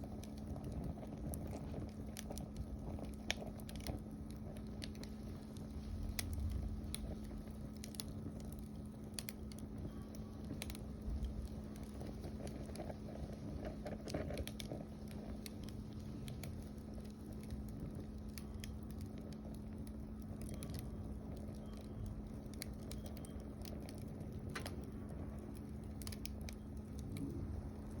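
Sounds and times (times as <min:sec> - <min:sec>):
faint steady hum: 0:00.0 - 0:28.0
wood fire crackling: 0:00.0 - 0:28.0
low rumble: 0:00.1 - 0:23.0, 0:23.6 - 0:28.0.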